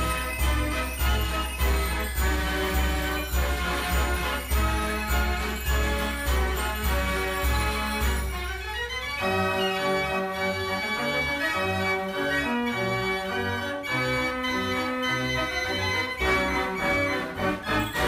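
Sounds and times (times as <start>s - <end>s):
fair organ playing a tune: 0.0s - 18.0s.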